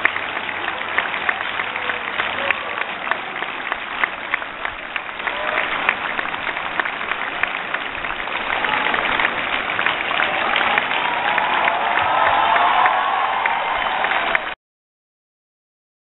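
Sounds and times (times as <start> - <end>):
crowd applauding: 0.0 - 14.6.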